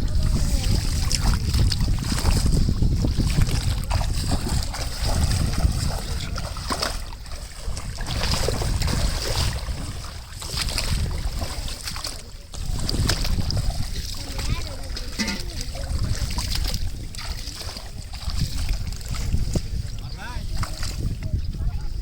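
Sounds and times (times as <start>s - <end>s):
floodwater rushing: 0.0s - 21.2s
wind buffeting microphone: 0.0s - 22.0s.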